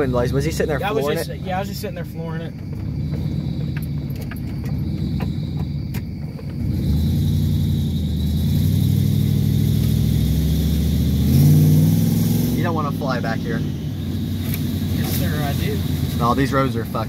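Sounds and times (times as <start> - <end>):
truck engine running under load: 2.6 - 17.0.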